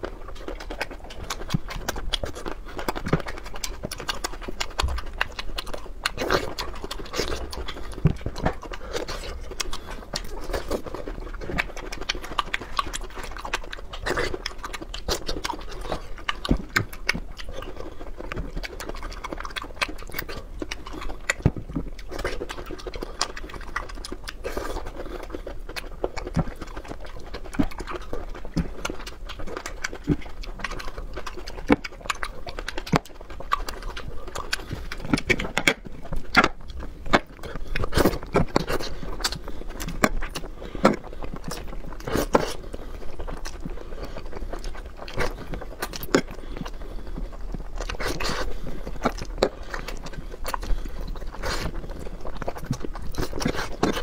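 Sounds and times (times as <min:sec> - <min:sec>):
person chewing: 0:00.0 - 0:54.0.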